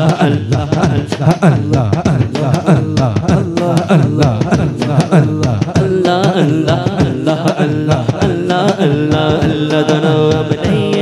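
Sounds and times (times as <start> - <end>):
fast hand drum rhythm: 0.0 - 11.0
man singing: 0.0 - 11.0.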